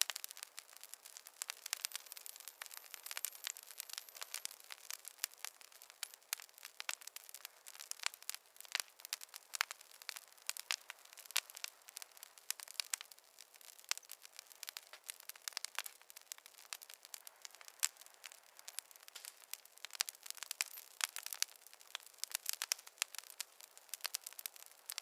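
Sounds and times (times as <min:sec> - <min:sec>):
faint hiss: 0:00.0 - 0:25.0
wood fire crackling and popping: 0:00.0 - 0:25.0.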